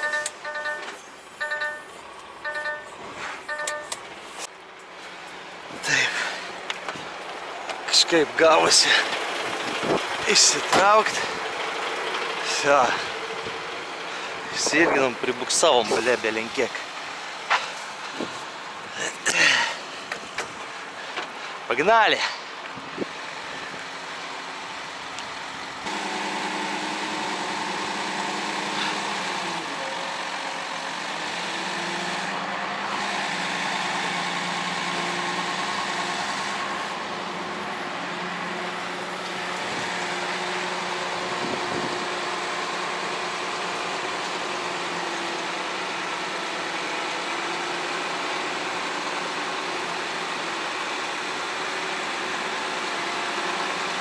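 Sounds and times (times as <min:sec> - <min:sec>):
diesel engine revving: 0:05.1 - 0:54.0.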